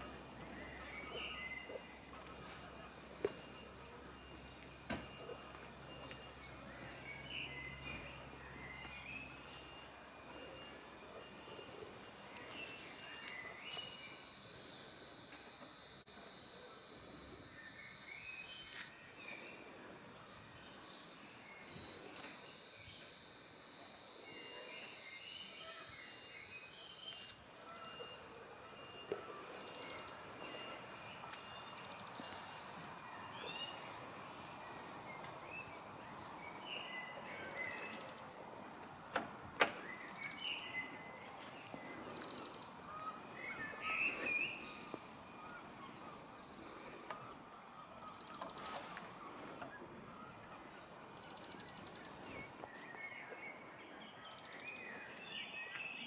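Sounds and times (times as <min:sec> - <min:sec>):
birds chirping and singing: 0:00.0 - 0:15.9, 0:24.2 - 0:56.0
outdoor background hiss: 0:00.0 - 0:56.0.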